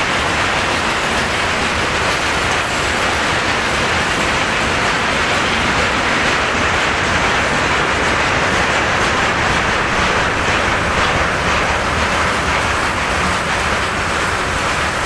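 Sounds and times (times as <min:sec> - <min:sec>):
steel wheels on rails: 0:00.0 - 0:15.0.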